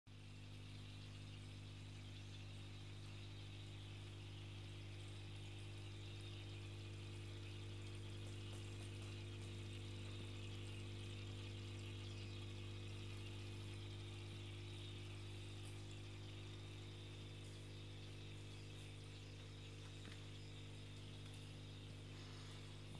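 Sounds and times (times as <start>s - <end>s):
filter pump hum: 0.1s - 22.9s.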